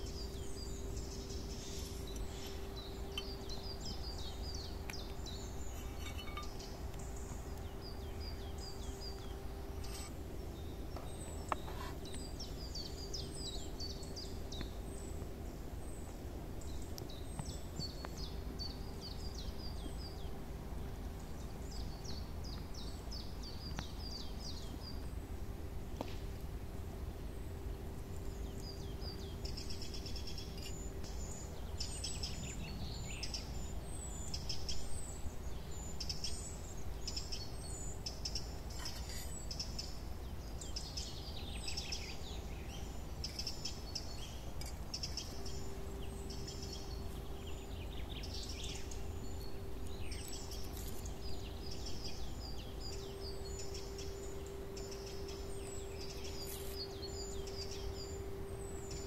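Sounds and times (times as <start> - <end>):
faint steady hum: 0.0 - 59.0
low background rumble: 0.0 - 59.0
songbirds chirping and trilling: 0.0 - 59.0.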